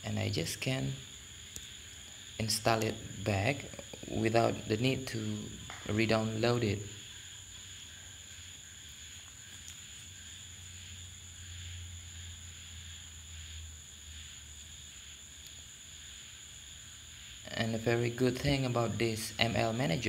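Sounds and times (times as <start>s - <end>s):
high constant whine: 0.0s - 20.0s
room tone hiss: 0.0s - 20.0s.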